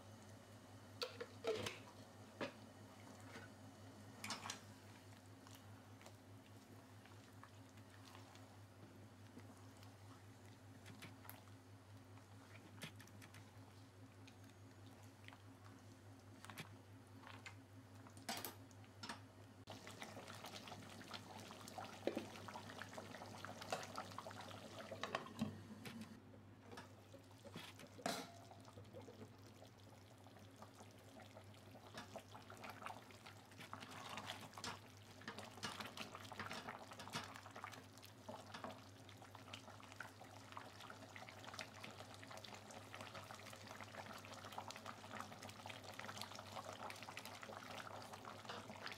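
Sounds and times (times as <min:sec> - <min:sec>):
curry bubbling in a pot: 0:01.0 - 0:25.5, 0:26.6 - 0:48.9.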